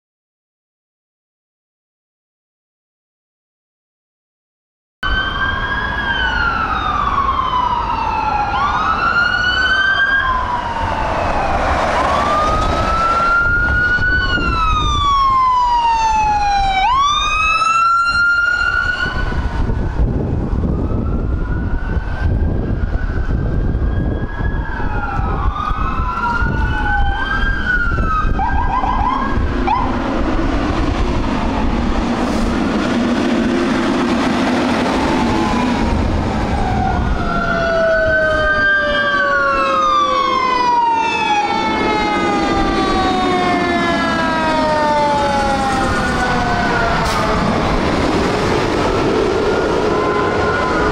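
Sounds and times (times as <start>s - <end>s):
siren chirps: 5.0s - 32.0s, 33.4s - 50.9s
vehicles rumbling: 5.0s - 50.9s
wailing sirens: 5.0s - 50.9s.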